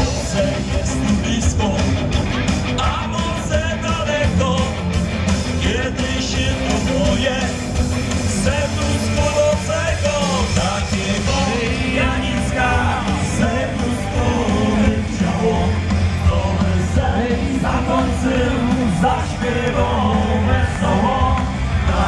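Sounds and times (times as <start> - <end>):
live rock band playing: 0.0 - 22.0
man singing: 0.0 - 22.0.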